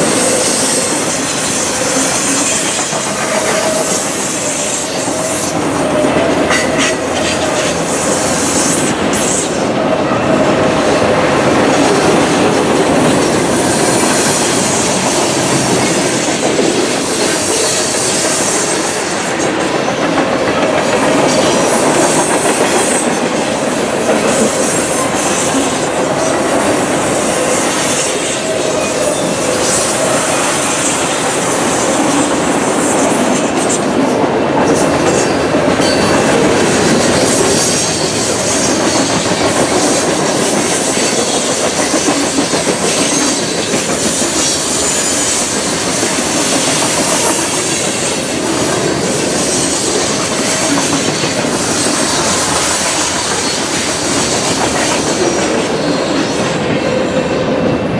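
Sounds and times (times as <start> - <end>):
steel wheels rumbling on rails: 0.0 - 57.9.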